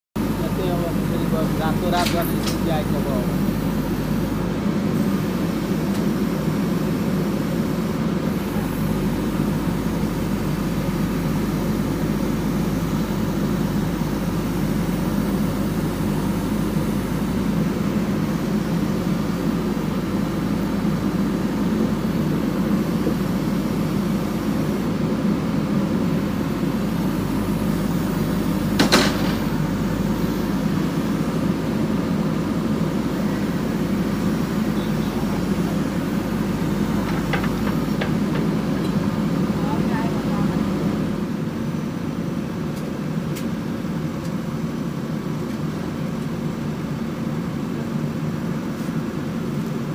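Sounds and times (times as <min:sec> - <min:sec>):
diesel engine running: 0:00.1 - 0:49.9
hydraulic arm working: 0:00.2 - 0:41.2.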